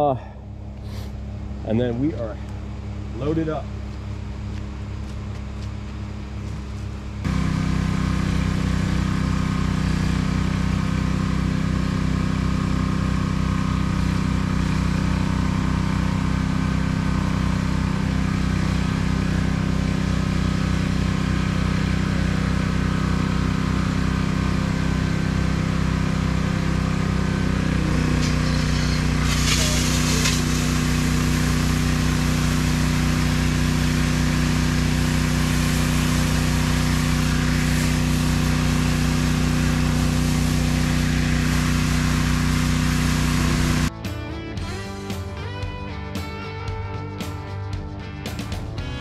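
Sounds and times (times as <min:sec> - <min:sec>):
engine running and revving: 0:03.2 - 0:43.9.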